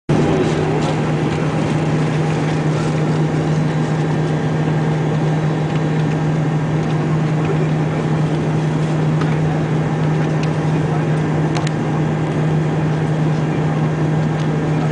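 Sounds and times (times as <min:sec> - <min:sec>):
jet engine drone and rushing air: 0:00.1 - 0:14.9
low hum: 0:00.1 - 0:14.9.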